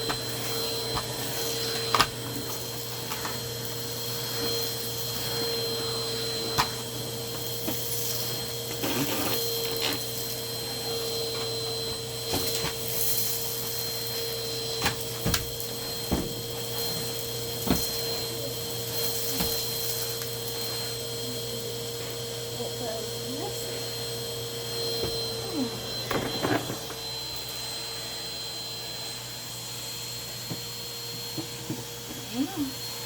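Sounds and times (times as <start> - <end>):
vacuum cleaner whining: 0.0 - 33.0.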